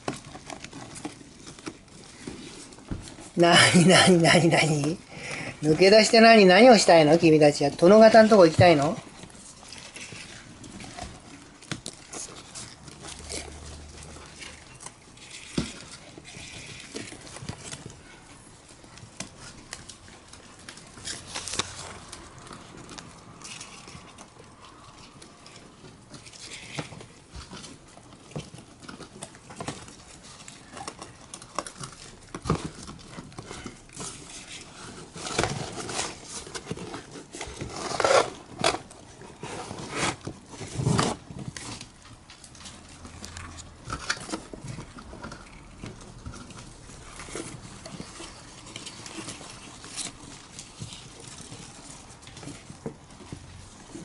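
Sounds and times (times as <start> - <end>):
paper rustling and crinkling: 0.0 - 54.0
small clicks and scratches: 5.7 - 54.0.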